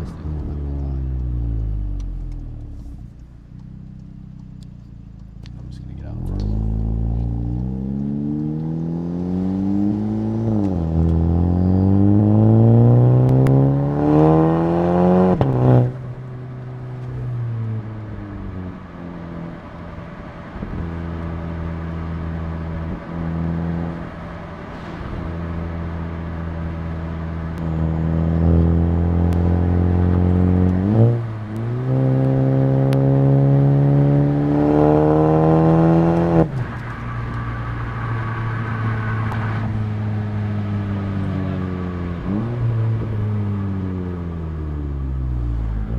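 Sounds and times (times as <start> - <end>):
car exhaust accelerating through gears: 0.0 - 45.9.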